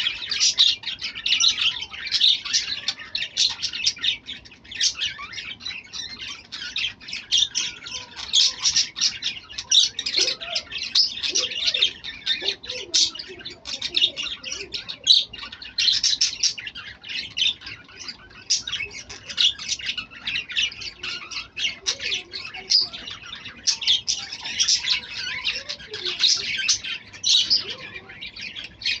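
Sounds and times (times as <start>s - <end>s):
flock of birds chattering: 0.0s - 29.0s.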